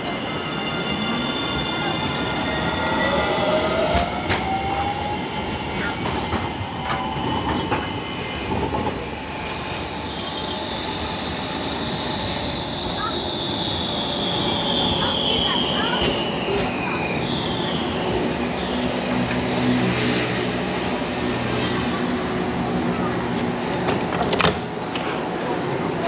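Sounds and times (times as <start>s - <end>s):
tram wheels squealing: 0.0s - 22.1s
tram rumbling: 0.0s - 26.0s.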